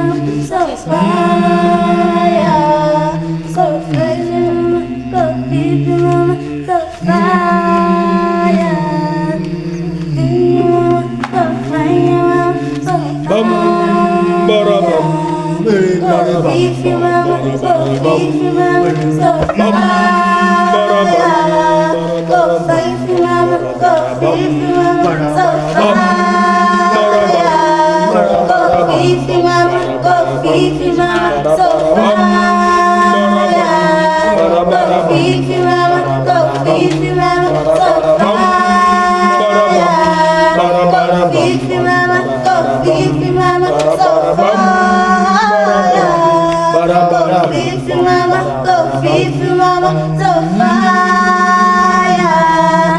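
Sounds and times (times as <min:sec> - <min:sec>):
a cappella group singing in harmony: 0:00.0 - 0:52.9.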